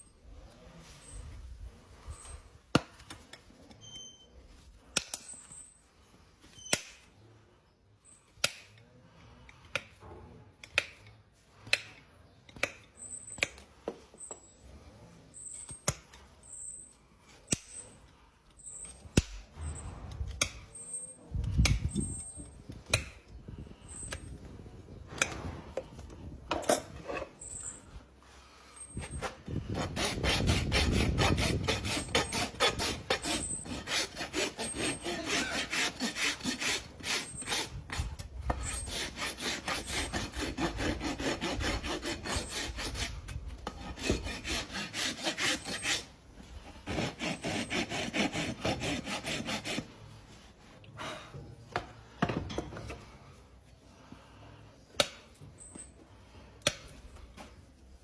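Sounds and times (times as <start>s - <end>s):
hand tool scraping a hoof: 0.0s - 58.0s.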